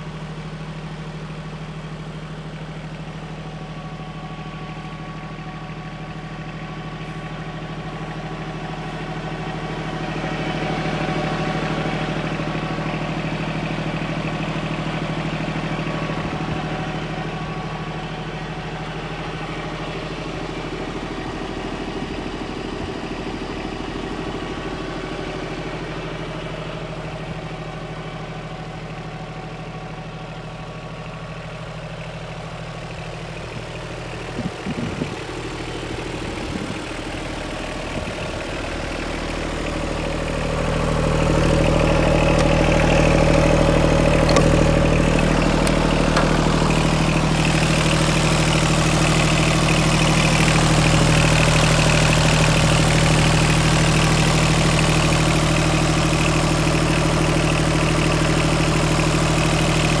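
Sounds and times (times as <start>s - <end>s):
tractor diesel engine idling: 0.0s - 60.0s.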